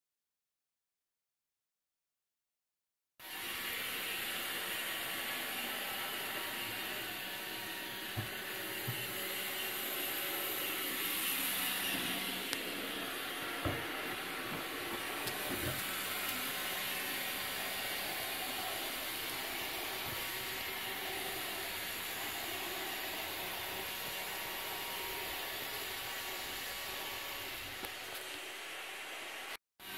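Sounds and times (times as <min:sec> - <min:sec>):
robot vacuum running: 0:03.2 - 0:29.4.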